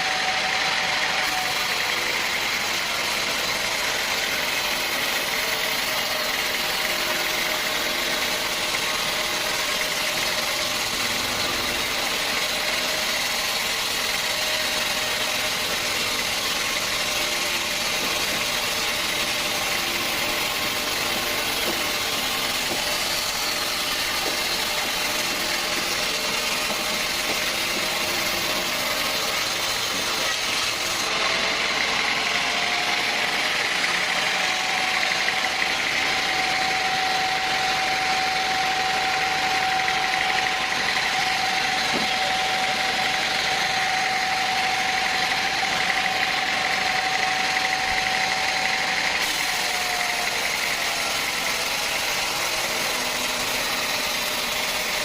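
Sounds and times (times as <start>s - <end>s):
sawmill machinery running: 0.0s - 55.0s
steady machine whine: 0.0s - 55.0s.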